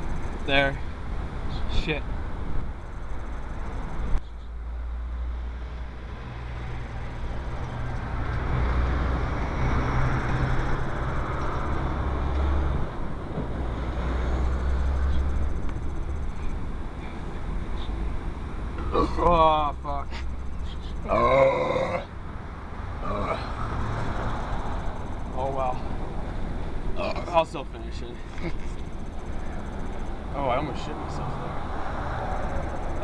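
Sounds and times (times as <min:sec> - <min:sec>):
car cabin road noise: 0:00.0 - 0:33.0.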